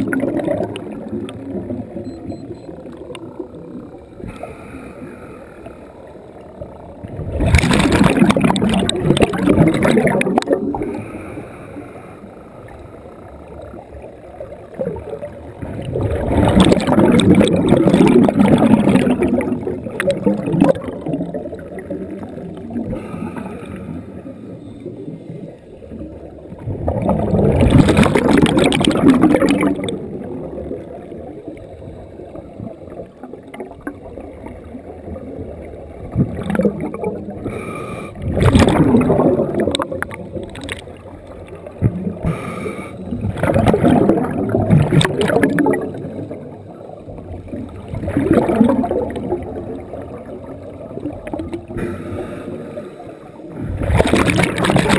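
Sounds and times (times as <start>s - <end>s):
exhaled bubbles gurgling underwater: 0.0s - 54.9s.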